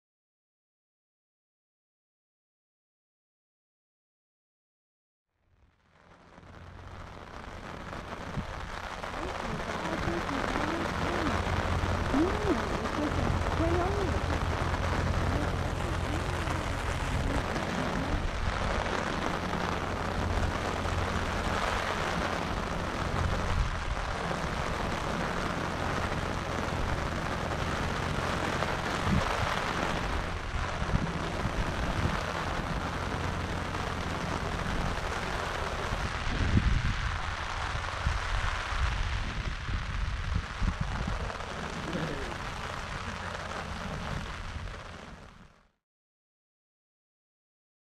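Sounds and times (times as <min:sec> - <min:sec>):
rain falling: 0:05.7 - 0:45.8
low rumble: 0:06.0 - 0:45.7.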